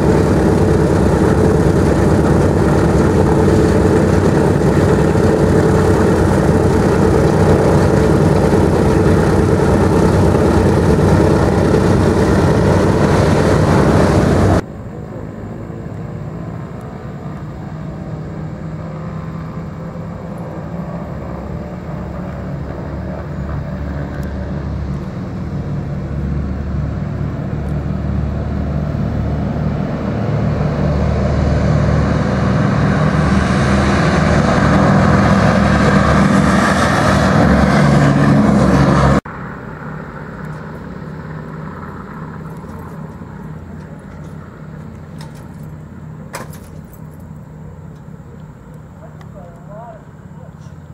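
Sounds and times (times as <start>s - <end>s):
bomber engines approaching on runway: 0.0s - 50.9s
radial piston engines droning: 0.0s - 50.9s.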